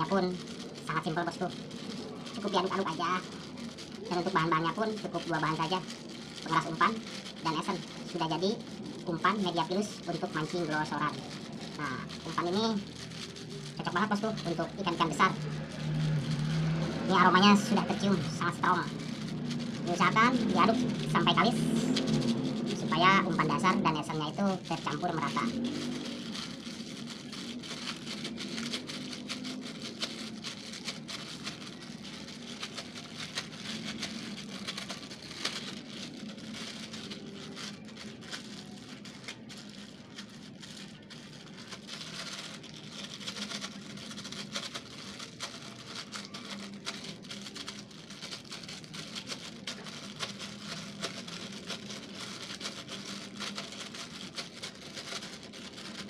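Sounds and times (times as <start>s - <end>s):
plastic bag crinkling: 0.0s - 56.0s.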